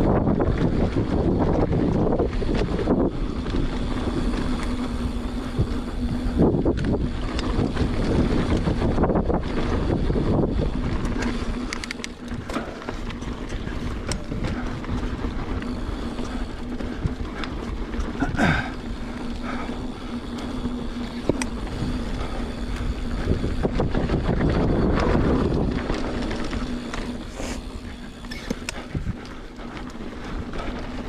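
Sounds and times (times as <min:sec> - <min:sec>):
bike clicks and knocks: 0:00.0 - 0:31.0
tyres rolling on dirt: 0:00.0 - 0:31.0
wind rushing over microphone: 0:00.0 - 0:31.0.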